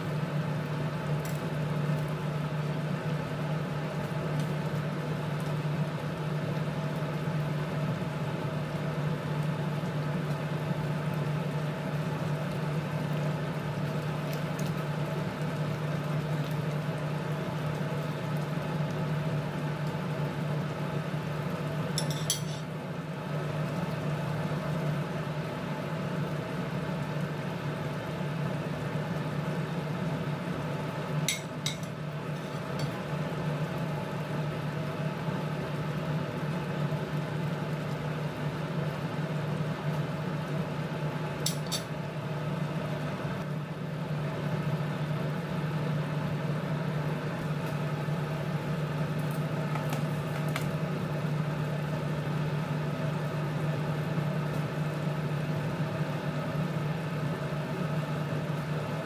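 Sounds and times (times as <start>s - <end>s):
sauce simmering in frying pan: 0.0s - 59.0s.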